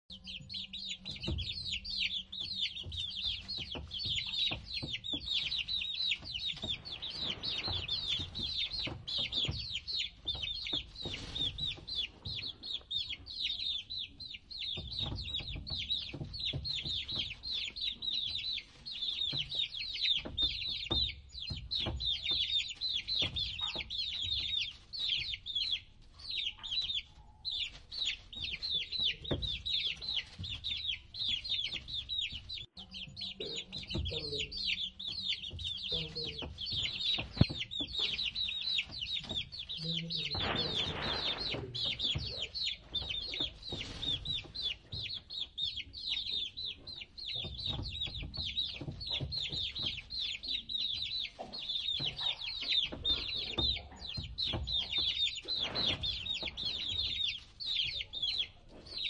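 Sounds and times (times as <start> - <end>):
baby chicks peeping: 0.0 - 59.0.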